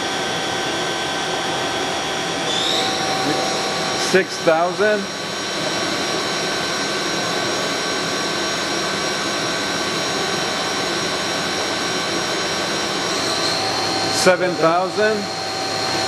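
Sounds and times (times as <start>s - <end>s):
machine spindle high whine: 0.0s - 16.0s.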